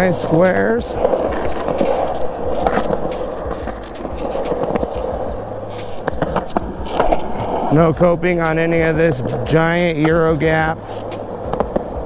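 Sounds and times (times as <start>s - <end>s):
skateboard wheels rolling on concrete: 0.0s - 12.0s.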